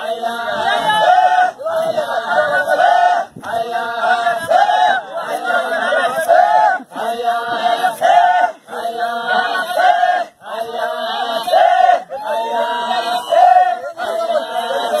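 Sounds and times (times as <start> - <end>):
group singing a chant: 0.0 - 15.0.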